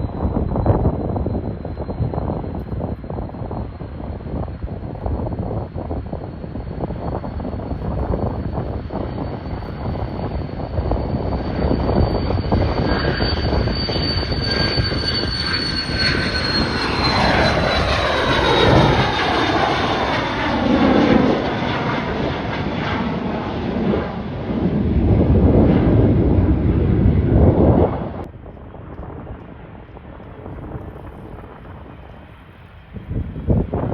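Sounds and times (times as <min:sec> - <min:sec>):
airliner passing close by: 0:00.0 - 0:33.9
wind buffeting microphone: 0:00.0 - 0:33.9.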